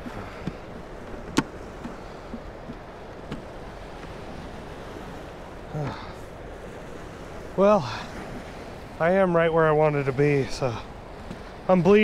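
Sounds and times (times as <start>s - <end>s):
water rushing from spillway: 0.0s - 12.0s.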